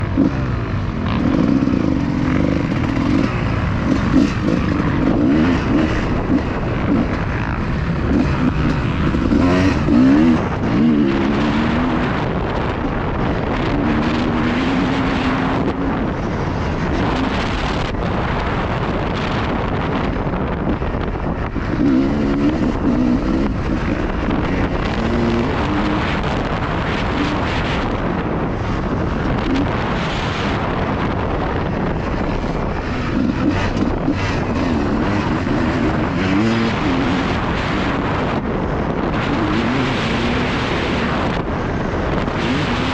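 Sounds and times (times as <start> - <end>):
motocross bike revving: 0.0 - 42.9
wind buffeting microphone: 0.0 - 42.9.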